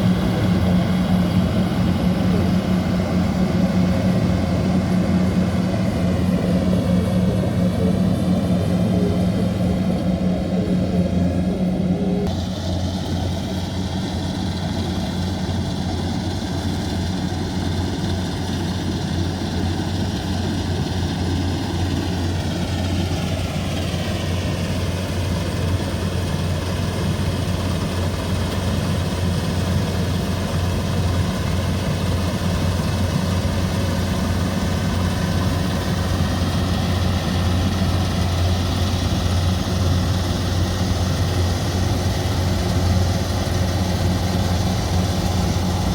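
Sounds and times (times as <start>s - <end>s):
combine harvester engine humming: 0.0s - 45.9s.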